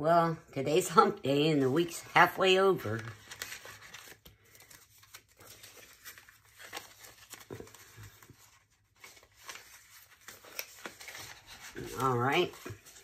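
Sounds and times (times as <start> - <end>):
paper bills rustling: 1.6 - 13.0.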